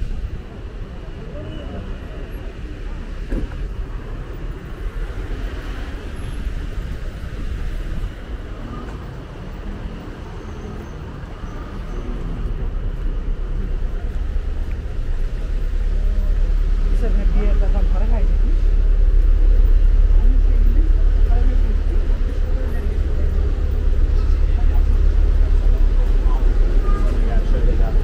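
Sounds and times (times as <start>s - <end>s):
faint voices of passers-by: 0.0s - 28.0s
road traffic rumble: 0.0s - 28.0s.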